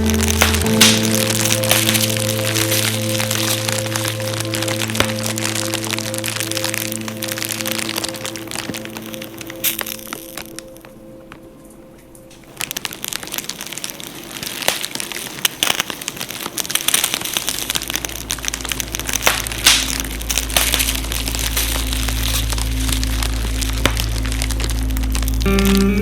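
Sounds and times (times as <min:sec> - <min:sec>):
low background music: 0:00.0 - 0:13.4, 0:17.7 - 0:26.0
wood fire crackling and popping: 0:00.0 - 0:26.0.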